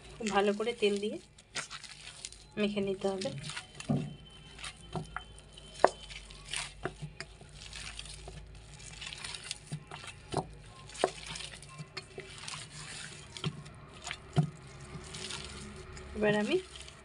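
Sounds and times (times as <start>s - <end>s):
hands kneading wet dough: 0.0s - 17.0s.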